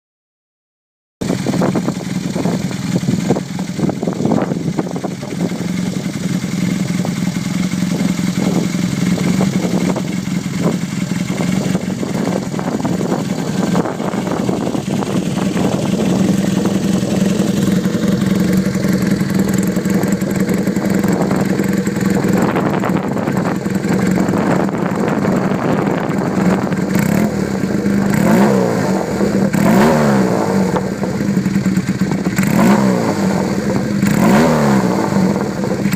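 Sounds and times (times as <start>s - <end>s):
motorcycle engine revving: 1.2s - 35.9s.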